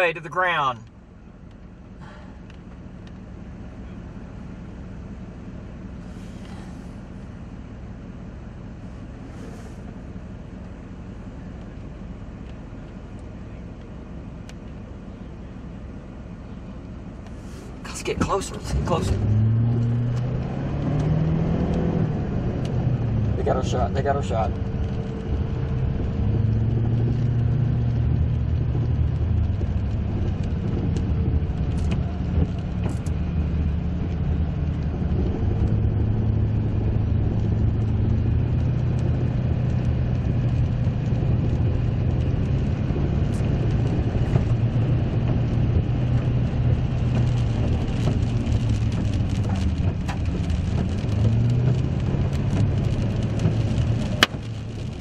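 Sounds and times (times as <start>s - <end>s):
car engine running: 0.0s - 55.0s
tyre and road noise: 0.0s - 55.0s.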